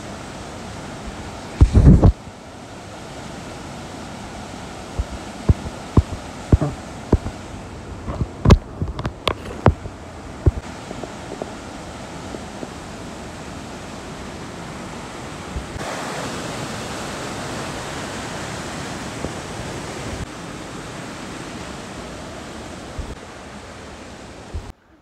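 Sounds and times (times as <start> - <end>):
water rushing over boulders: 0.0 - 24.8.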